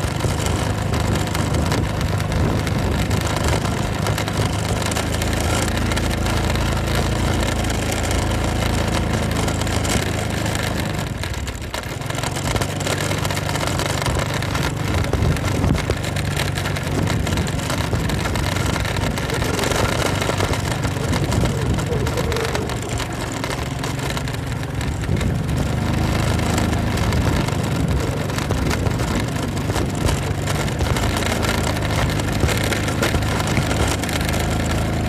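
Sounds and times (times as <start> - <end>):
constant rushing noise: 0.0 - 35.0
motorcycle engine running: 0.0 - 35.0.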